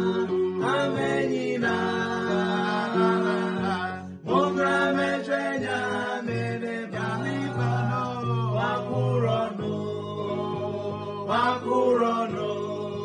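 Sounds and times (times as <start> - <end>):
group singing a hymn in harmony: 0.0 - 13.0.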